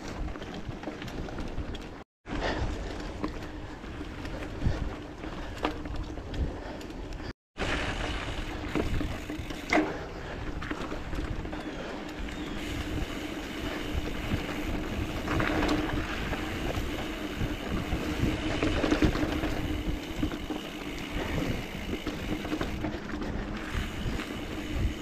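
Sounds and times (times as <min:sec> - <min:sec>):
mountain bike rumble and rattle: 0:00.0 - 0:25.0
wind buffeting microphone: 0:00.0 - 0:25.0.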